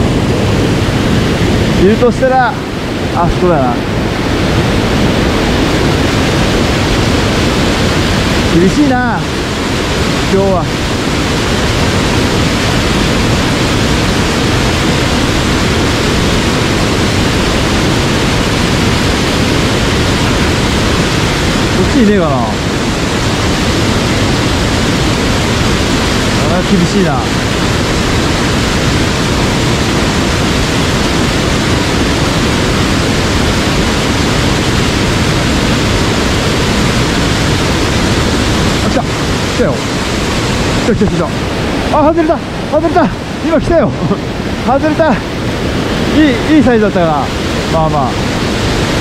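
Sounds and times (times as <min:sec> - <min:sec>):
stream water rushing over rocks: 0:00.0 - 0:49.0.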